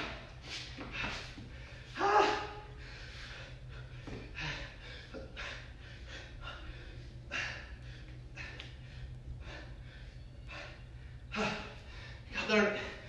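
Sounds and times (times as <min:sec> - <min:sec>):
low hum: 0:00.0 - 0:13.0
man breathing hard: 0:00.3 - 0:13.0.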